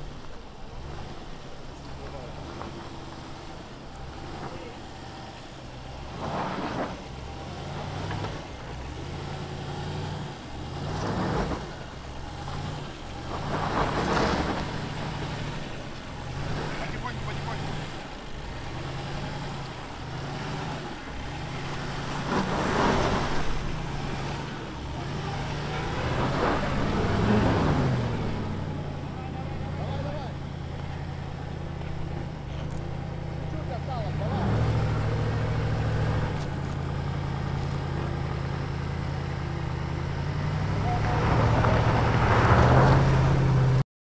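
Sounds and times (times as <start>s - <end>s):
car engine pulling under load: 0.0s - 43.8s
wheels spinning in sand: 0.0s - 43.8s.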